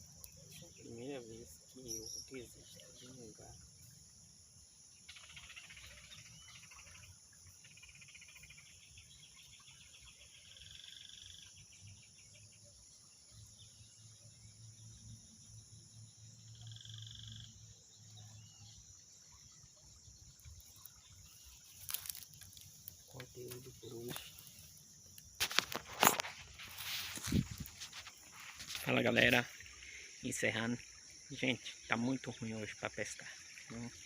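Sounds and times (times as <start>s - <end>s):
crickets chorus: 0.0s - 34.0s
faint frogs trilling: 0.0s - 34.0s.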